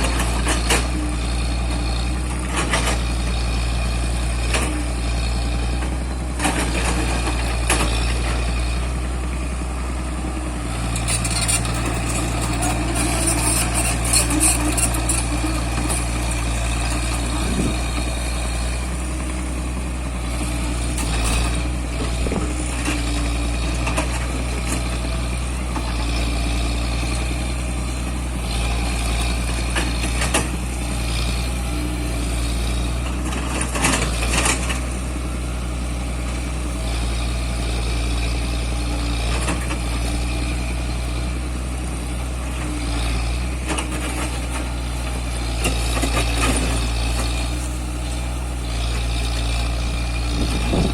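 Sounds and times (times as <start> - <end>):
heavy machine engine running: 0.0 - 50.9.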